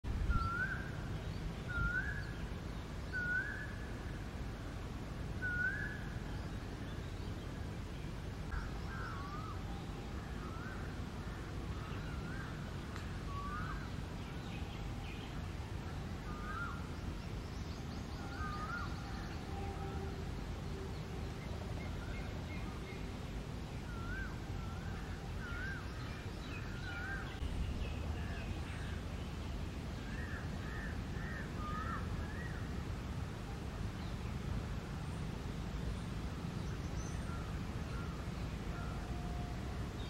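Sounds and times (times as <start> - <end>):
steady low background noise: 0.0 - 40.0.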